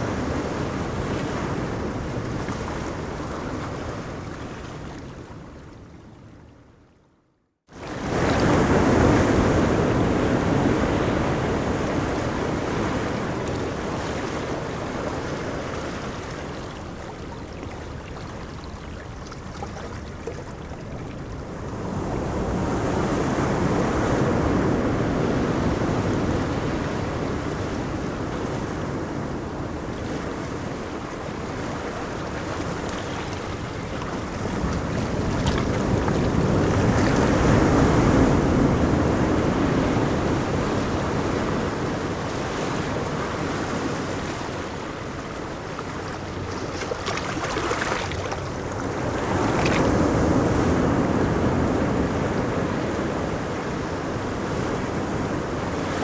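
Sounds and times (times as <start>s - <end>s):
ocean waves breaking: 0.0s - 6.4s, 7.7s - 56.0s.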